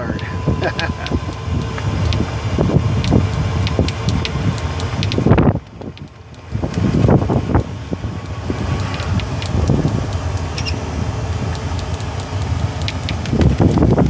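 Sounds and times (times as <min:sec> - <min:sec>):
vehicle road rumble: 0:00.0 - 0:14.0
wind buffeting microphone: 0:00.0 - 0:14.0.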